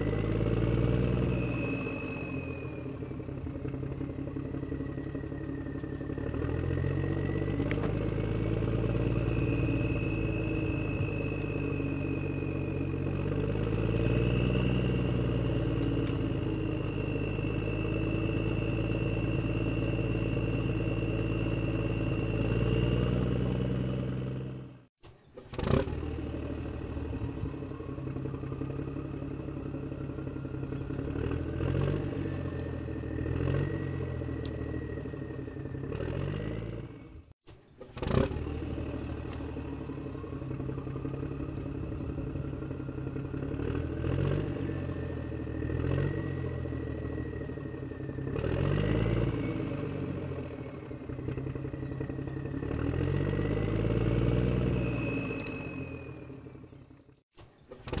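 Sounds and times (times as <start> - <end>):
tractor engine revving: 0.0 - 58.0.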